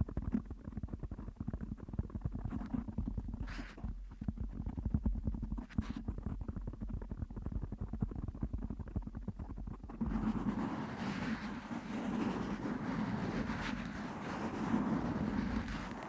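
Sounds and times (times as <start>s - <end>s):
scratching on microphone: 0.0s - 16.0s.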